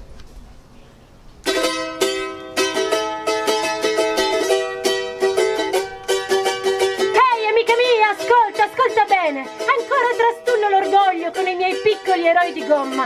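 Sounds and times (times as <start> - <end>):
plucked string instrument notes: 1.4 - 13.0.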